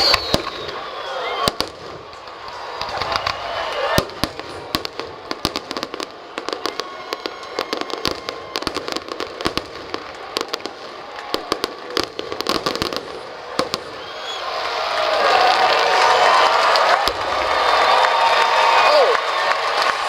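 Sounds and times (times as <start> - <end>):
fireworks crackling pops: 0.0 - 18.7.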